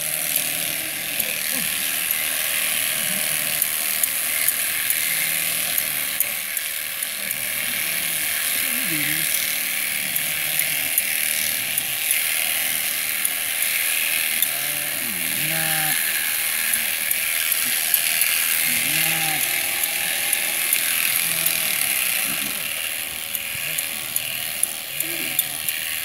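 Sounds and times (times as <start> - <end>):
electric shears buzzing: 0.0 - 26.0.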